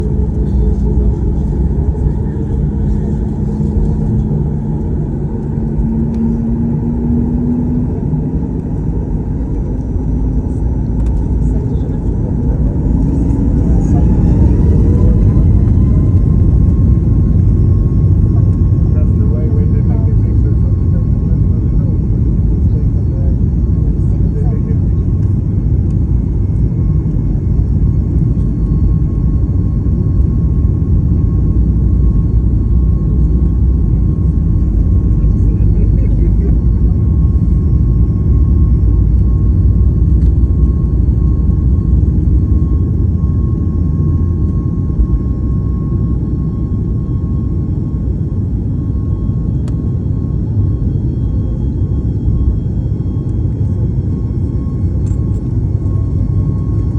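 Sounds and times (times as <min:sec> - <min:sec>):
jet engines rumbling in cabin: 0:00.0 - 0:56.9
thin steady whine: 0:00.0 - 0:56.9.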